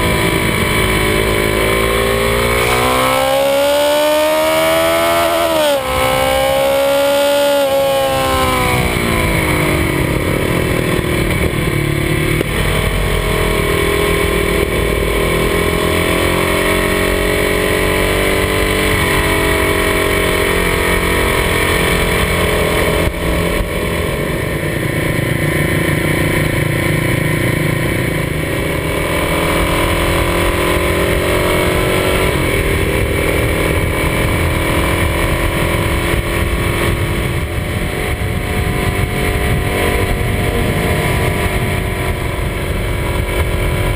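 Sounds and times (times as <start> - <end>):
motorcycle engine running at speed: 0.0 - 43.9
wind noise on microphone: 0.0 - 43.9.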